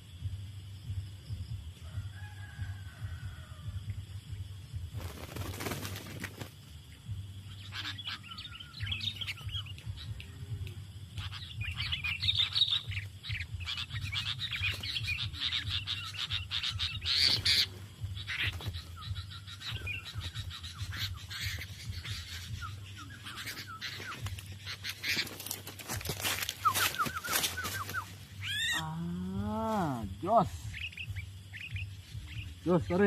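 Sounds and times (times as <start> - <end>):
birds chattering calls: 4.0 - 33.0.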